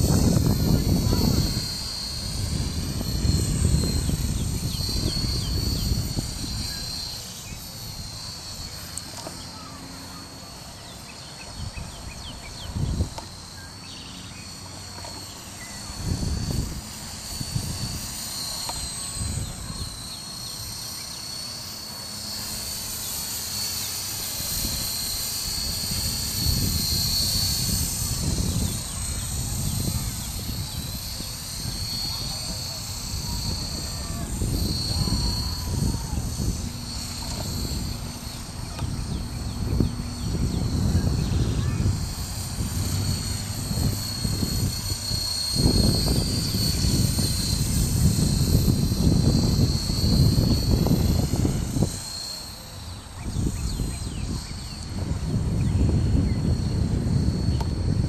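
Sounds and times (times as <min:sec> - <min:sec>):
wind rumbling on microphone: 0:00.0 - 0:08.9, 0:11.5 - 0:13.6, 0:14.8 - 0:20.1, 0:24.4 - 0:58.0
rc helicopter motor whine: 0:00.0 - 0:58.0.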